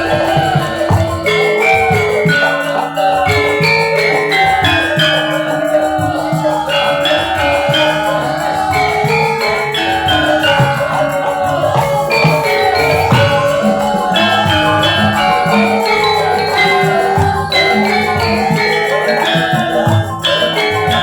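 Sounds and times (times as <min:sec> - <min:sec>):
bronze metallophones ringing: 0:00.0 - 0:21.0
gamelan music: 0:00.0 - 0:21.0.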